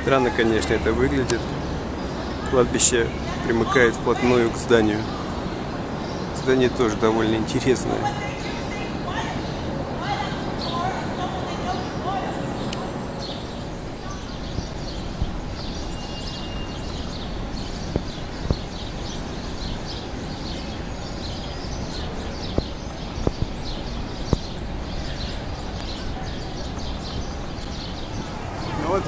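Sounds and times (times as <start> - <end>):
city background rumble: 0.0 - 29.0
small birds chirping: 0.0 - 29.0.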